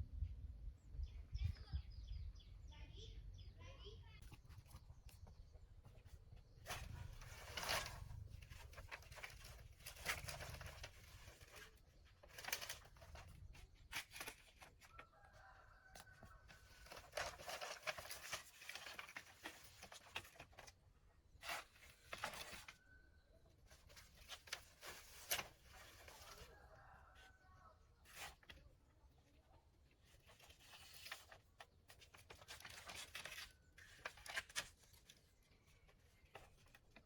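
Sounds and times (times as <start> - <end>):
rustling and handling noises: 4.1 - 37.0.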